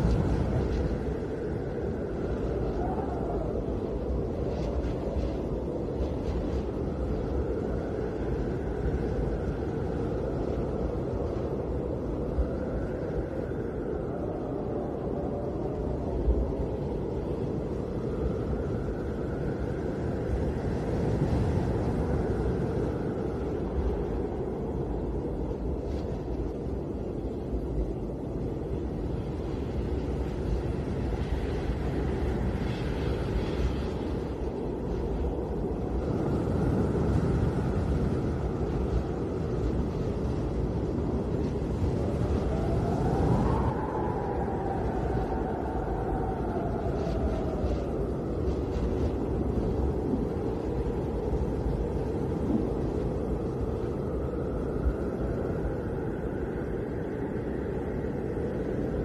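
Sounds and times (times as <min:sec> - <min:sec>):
howling storm wind: 0:00.0 - 0:59.0.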